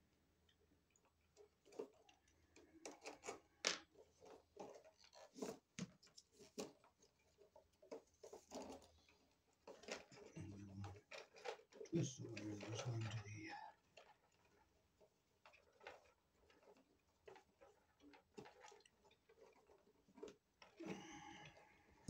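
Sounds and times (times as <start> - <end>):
small clicks and scrapes of wires: 0.5 - 22.0.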